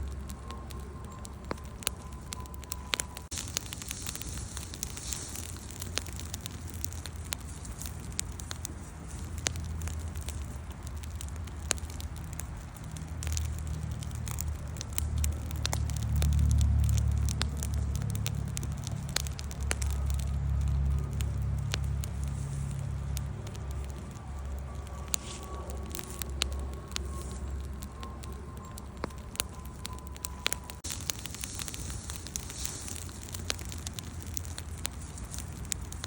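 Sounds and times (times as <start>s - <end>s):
campfire crackling and popping: 0.0s - 36.0s
low fire rumble: 0.0s - 36.0s.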